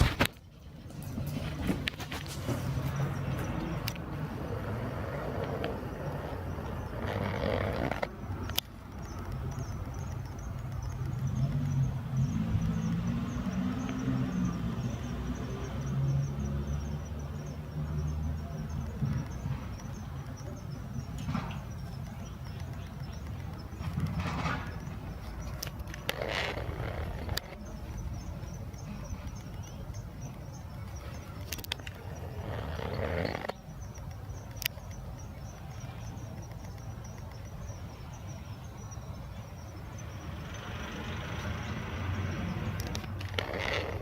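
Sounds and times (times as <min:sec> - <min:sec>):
distant traffic rumble: 0:00.0 - 0:44.0
insect trilling: 0:02.8 - 0:44.0.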